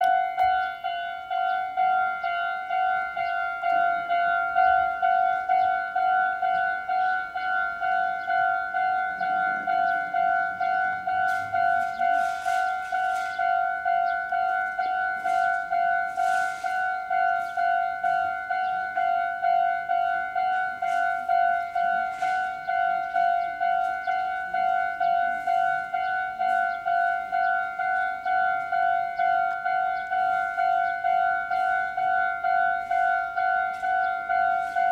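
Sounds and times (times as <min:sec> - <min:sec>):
level-crossing alarm ringing: 0:00.0 - 0:34.9.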